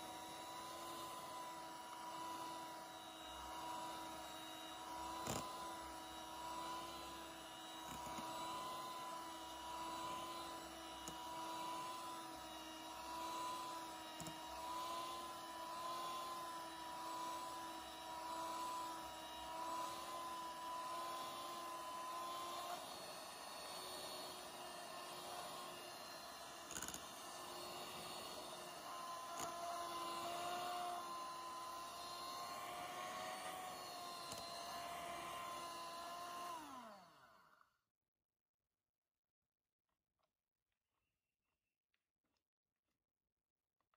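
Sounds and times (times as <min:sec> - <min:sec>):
electric mixer motor whine: 0:00.0 - 0:37.8.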